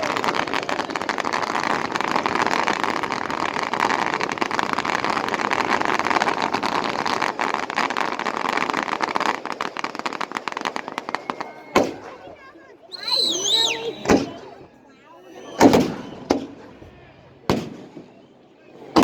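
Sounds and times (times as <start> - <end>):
firework hissing and crackling: 0.0 - 14.6, 15.5 - 16.7.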